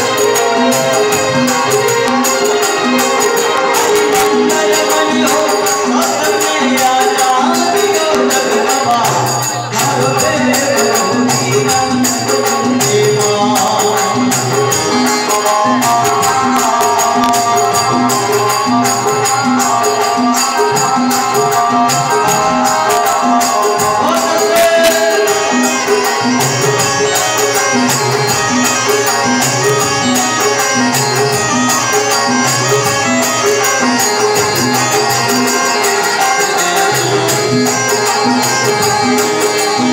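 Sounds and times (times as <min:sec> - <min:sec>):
dholak drum beat: 0:00.0 - 0:39.9
harmonium and keyboard notes: 0:00.0 - 0:39.9
metallic hand percussion jingle: 0:00.0 - 0:39.9.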